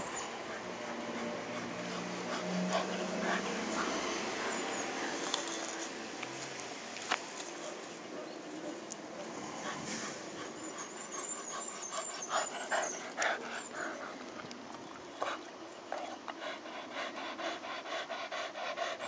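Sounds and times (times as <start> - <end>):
dog panting: 0.0 - 6.0, 7.5 - 19.0.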